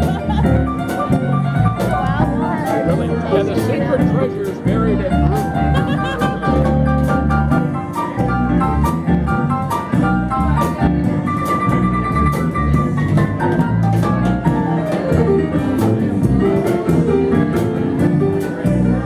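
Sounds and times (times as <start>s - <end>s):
bass line: 0.0s - 19.0s
drum kit hits: 0.0s - 19.0s.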